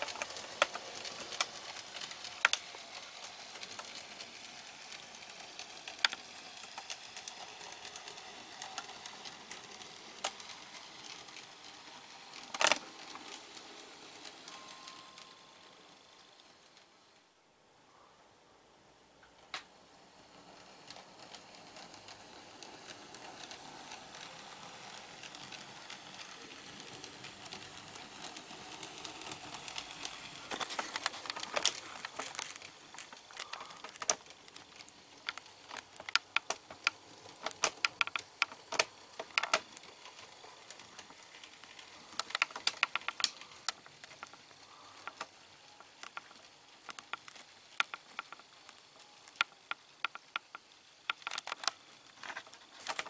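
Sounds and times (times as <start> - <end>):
model train motor whirr: 0.0 - 17.2, 19.6 - 53.0
wheels clicking on track: 0.0 - 17.3, 19.5 - 53.0.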